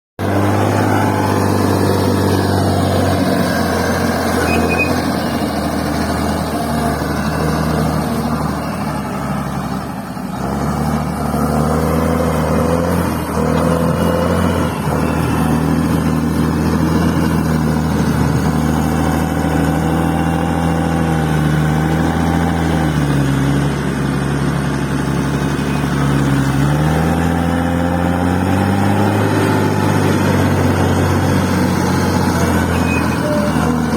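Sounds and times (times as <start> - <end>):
bulldozer diesel engine running: 0.2 - 33.9.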